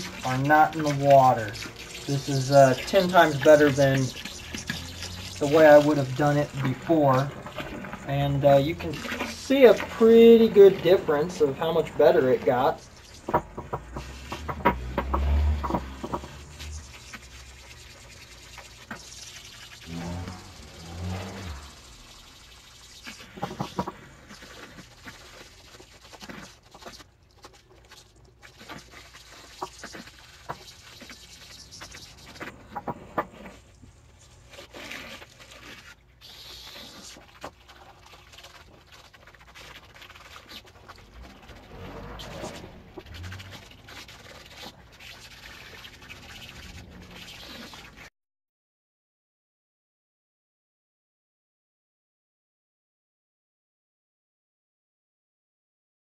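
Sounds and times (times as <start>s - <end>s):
brush scrubbing in water: 0.0s - 48.1s.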